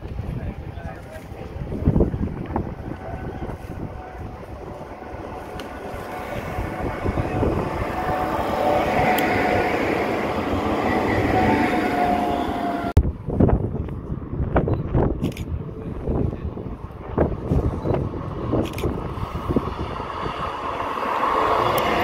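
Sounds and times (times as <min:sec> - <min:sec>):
steady whine: 0:00.0 - 0:22.0
tram passing on track: 0:00.0 - 0:22.0
wind buffeting microphone: 0:00.0 - 0:22.0.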